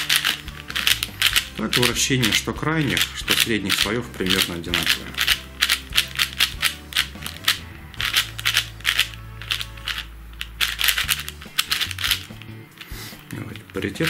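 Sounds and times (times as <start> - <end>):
puzzle cube clicking and clacking: 0.0 - 14.0.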